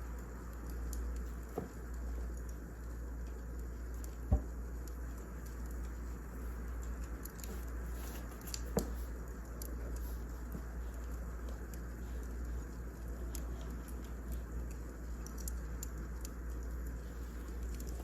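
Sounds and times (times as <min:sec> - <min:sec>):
small clicks: 0:00.0 - 0:18.0
wood fire crackling: 0:00.0 - 0:18.0.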